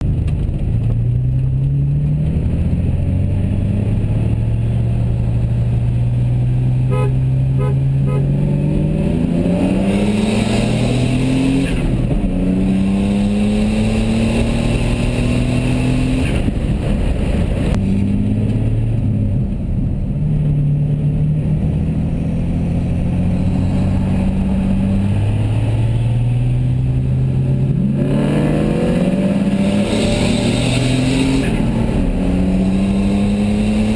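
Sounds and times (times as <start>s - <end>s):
vehicle engine accelerating: 0.0s - 33.9s.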